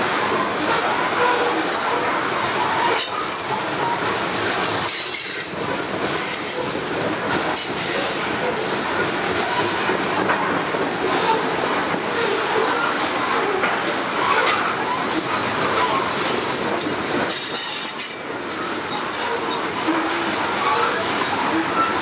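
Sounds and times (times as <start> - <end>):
train wheels rumbling and clattering: 0.0 - 22.0.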